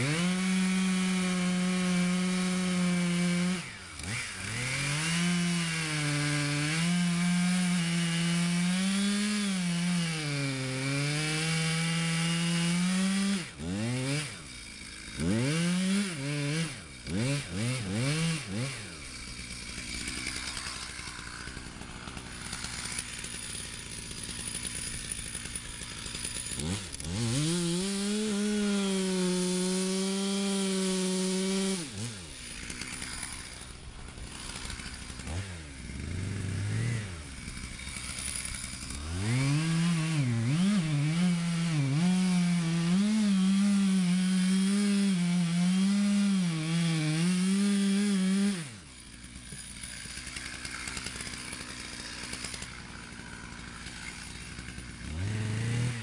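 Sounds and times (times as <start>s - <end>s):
chainsaw cutting into tree trunk: 0.0s - 56.0s
chainsaw revving and idling: 0.0s - 56.0s.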